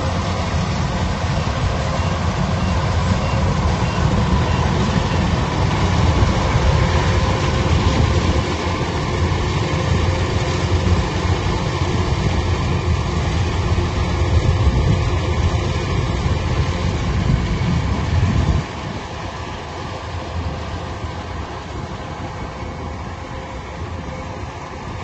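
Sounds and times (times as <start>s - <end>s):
heavy machine engine running: 0.0s - 25.0s.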